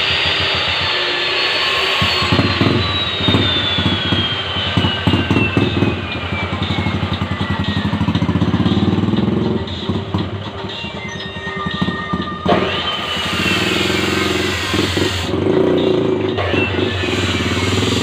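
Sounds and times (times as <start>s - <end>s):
high whine falling in pitch: 0.0s - 18.0s
motorcycle engine running: 0.0s - 18.0s.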